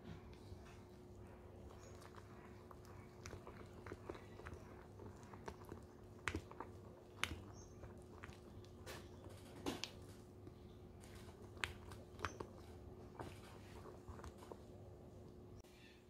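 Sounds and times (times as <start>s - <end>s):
spatula stirring batter: 0.4s - 15.6s.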